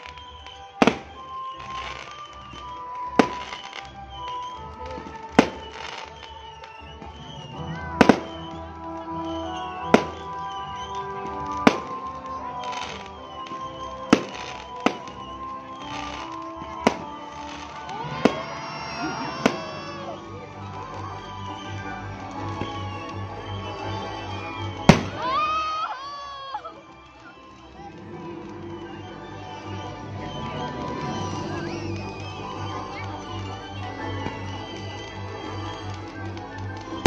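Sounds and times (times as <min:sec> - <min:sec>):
fireworks bursting with bangs: 0:00.0 - 0:26.0, 0:26.8 - 0:37.0
music: 0:00.0 - 0:37.0.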